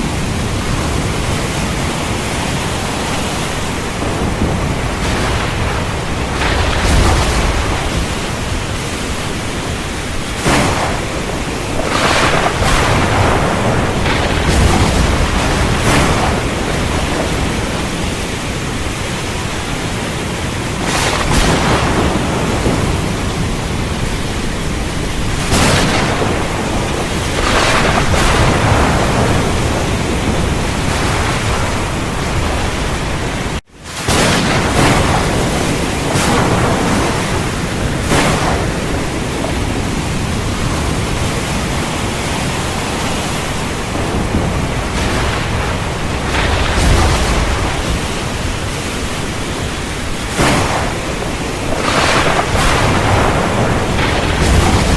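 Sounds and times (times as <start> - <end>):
heavy rain falling: 0.0 - 54.9
low thunder rumbling: 0.0 - 54.9.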